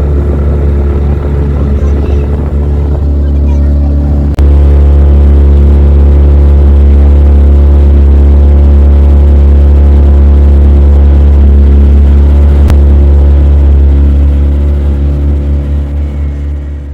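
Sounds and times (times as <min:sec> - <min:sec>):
motorboat engine droning: 0:00.0 - 0:16.9.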